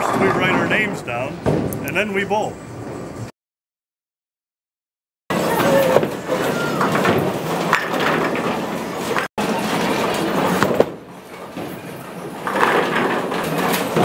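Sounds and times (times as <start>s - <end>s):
bowling balls rolling: 0.0s - 3.3s, 5.3s - 14.0s.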